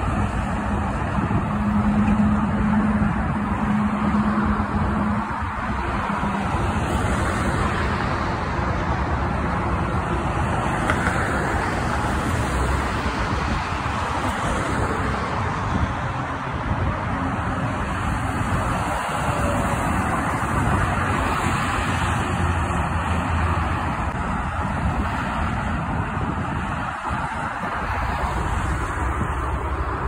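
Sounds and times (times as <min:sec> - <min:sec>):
highway traffic rushing: 0:00.0 - 0:30.0.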